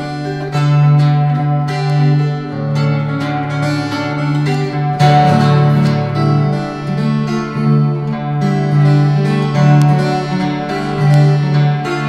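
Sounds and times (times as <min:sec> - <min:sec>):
fingerstyle acoustic guitar: 0:00.0 - 0:12.0
strummed guitar chord: 0:00.0 - 0:12.0.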